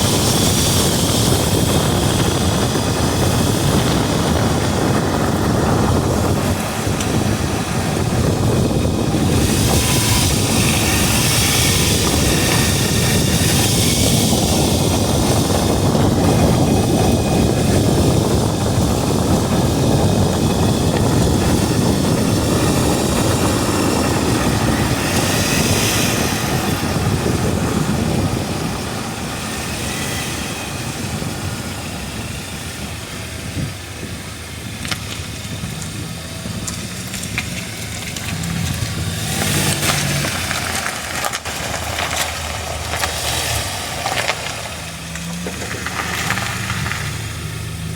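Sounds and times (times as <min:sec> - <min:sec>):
road and tyre noise: 0:00.0 - 0:47.9.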